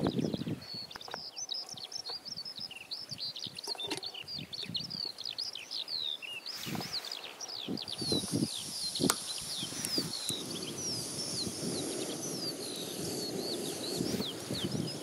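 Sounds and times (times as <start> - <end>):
songbird singing trills: 0.0 - 15.0.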